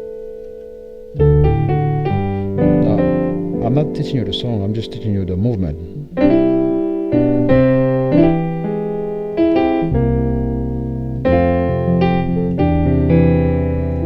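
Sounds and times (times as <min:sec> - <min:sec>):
piano chords ringing: 0:00.0 - 0:14.0.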